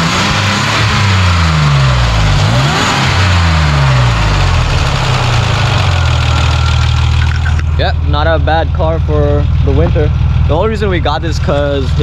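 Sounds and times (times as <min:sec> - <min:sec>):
pickup engine revving and idling: 0:00.0 - 0:12.0.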